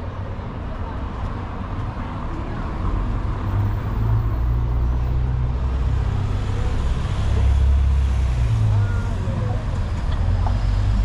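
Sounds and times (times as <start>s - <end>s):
street noise: 0.0s - 11.0s
vehicle engine rumble: 0.0s - 11.0s.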